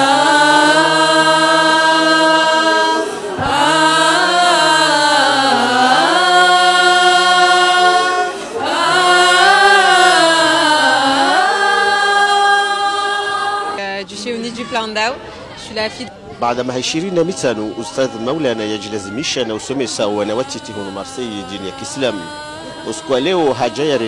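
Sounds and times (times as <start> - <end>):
person chanting unaccompanied: 0.0 - 13.8, 17.0 - 24.0.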